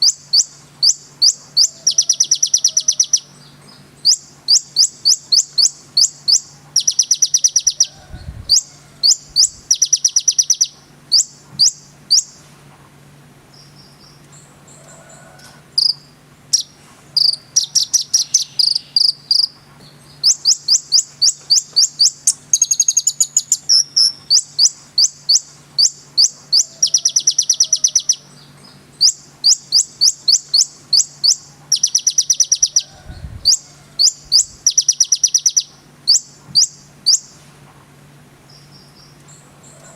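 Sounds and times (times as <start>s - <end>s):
bird singing chips and trills: 0.0s - 12.4s, 15.8s - 37.4s
faint steady low hum: 0.0s - 39.9s.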